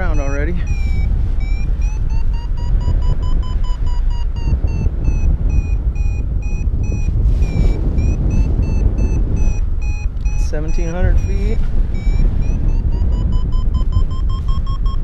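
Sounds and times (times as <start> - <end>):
variometer beeping: 0.0 - 15.0
wind rumble on microphone: 0.0 - 15.0.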